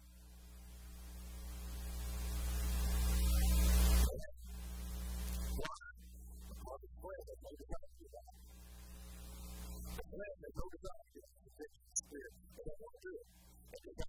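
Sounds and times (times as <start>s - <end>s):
electrical mains hum with hiss: 0.0s - 14.0s.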